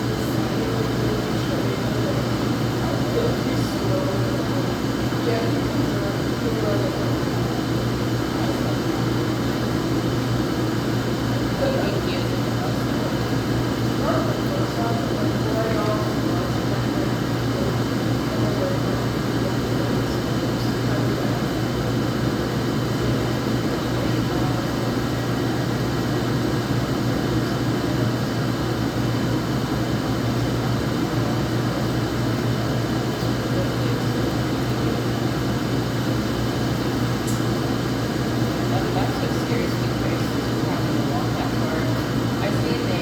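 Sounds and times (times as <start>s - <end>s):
laundromat machines humming: 0.0s - 43.0s.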